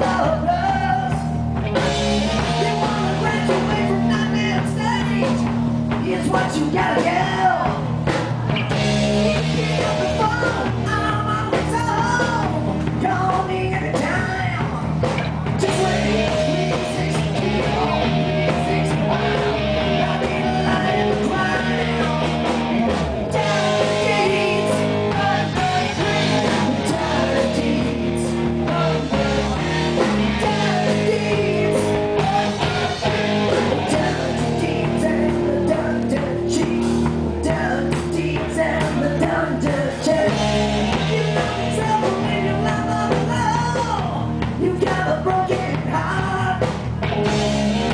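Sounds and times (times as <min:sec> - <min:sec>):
person singing: 0:00.0 - 0:01.4, 0:02.3 - 0:07.9, 0:09.2 - 0:14.8, 0:15.6 - 0:22.7, 0:23.3 - 0:46.7
drums: 0:00.0 - 0:47.9
electric guitar: 0:00.0 - 0:47.9.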